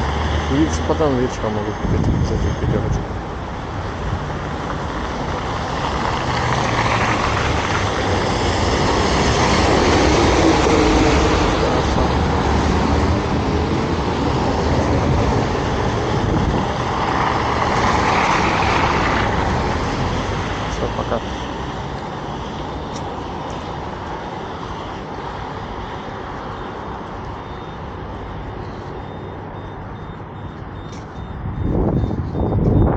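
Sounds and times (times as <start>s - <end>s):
vehicles passing close by: 0.0s - 32.9s.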